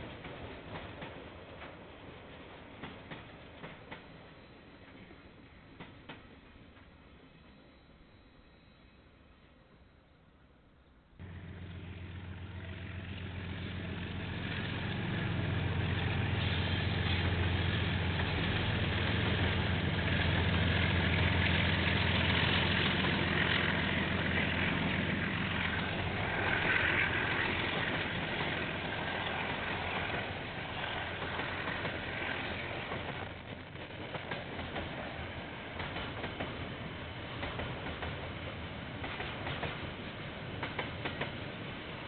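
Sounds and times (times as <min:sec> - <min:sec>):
train wheels rolling on rails: 0:00.0 - 0:07.4, 0:11.2 - 0:42.0
diesel locomotive drone: 0:00.0 - 0:42.0.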